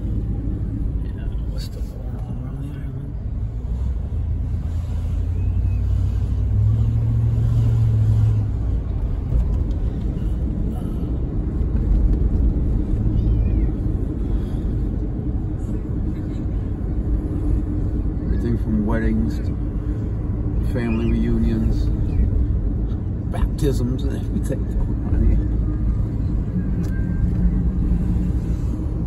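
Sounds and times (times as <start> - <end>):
car engine and tyre rumble: 0.0 - 29.0
low hum: 0.0 - 29.0.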